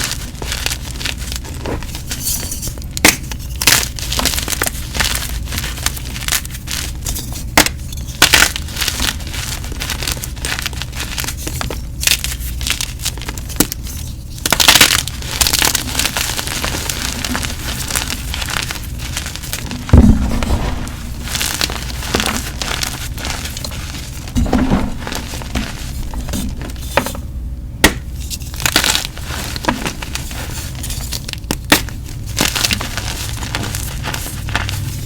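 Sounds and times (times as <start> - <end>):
chalk crunching and crumbling: 0.0 - 27.2, 27.9 - 35.0.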